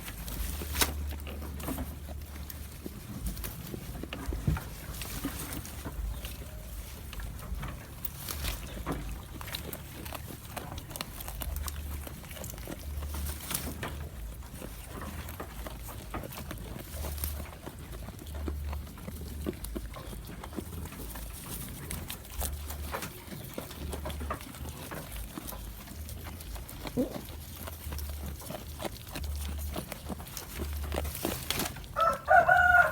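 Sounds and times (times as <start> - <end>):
goat chewing crunchy food: 0.0 - 32.9.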